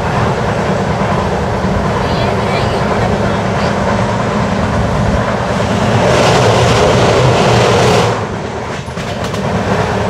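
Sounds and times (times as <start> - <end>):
train running at speed: 0.0 - 10.0.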